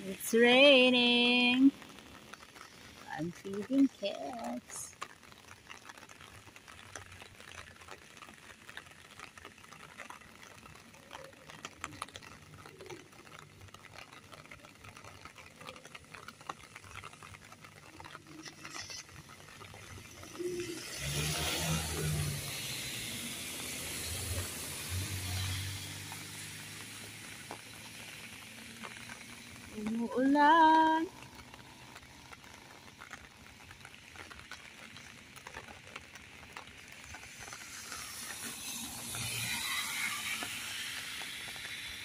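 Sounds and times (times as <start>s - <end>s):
rain hiss: 0.0s - 42.0s
raindrops ticking: 0.0s - 42.0s
tyres hissing on wet road: 0.0s - 42.0s.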